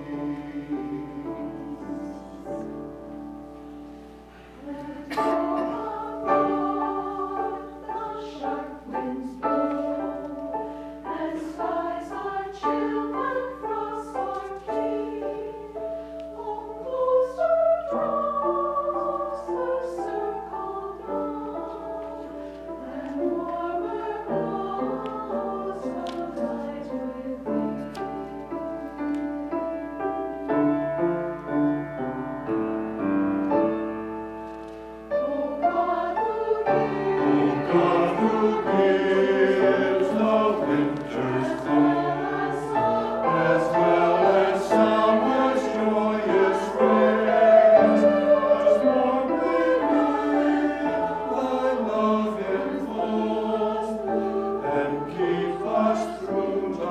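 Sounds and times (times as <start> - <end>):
church choir singing: 0.0 - 56.9.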